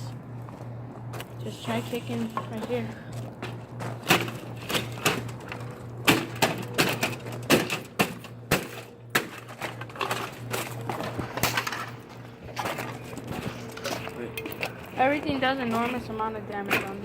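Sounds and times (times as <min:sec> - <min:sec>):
air conditioner being kicked and struck: 0:01.1 - 0:15.9.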